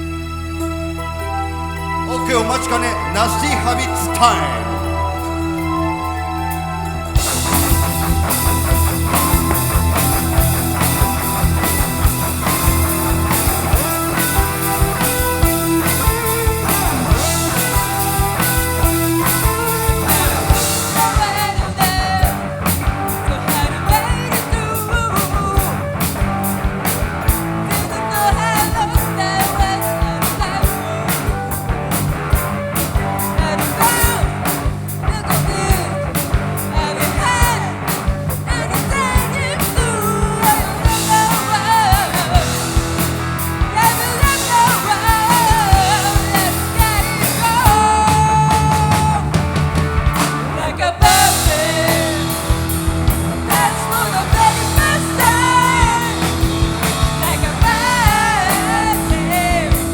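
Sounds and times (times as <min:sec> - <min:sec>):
live rock band playing: 0:00.0 - 0:59.9
person singing: 0:02.1 - 0:08.4, 0:13.3 - 0:26.0, 0:27.7 - 0:31.7, 0:33.1 - 0:49.4, 0:50.5 - 0:59.9
hard steady drum beat: 0:07.2 - 0:59.9.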